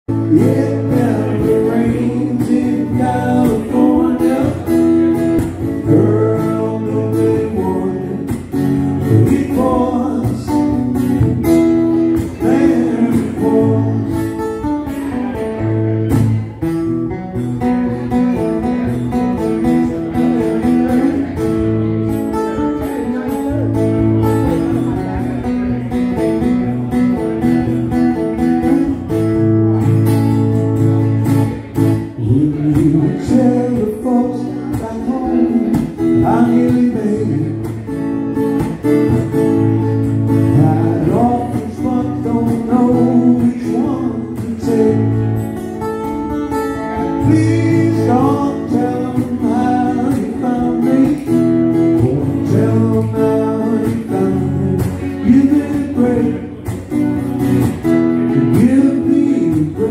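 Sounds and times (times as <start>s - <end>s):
man singing: 0.1s - 16.1s, 17.7s - 25.7s, 31.0s - 57.2s, 58.1s - 59.9s
strummed acoustic guitar: 0.1s - 59.9s.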